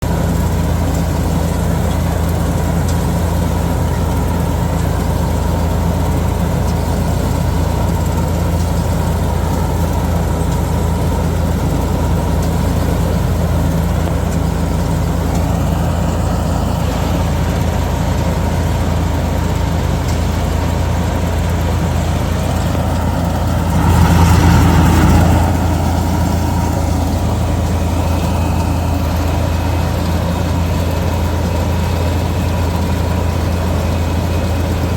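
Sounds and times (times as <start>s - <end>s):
harvester engine running: 0.0s - 34.9s.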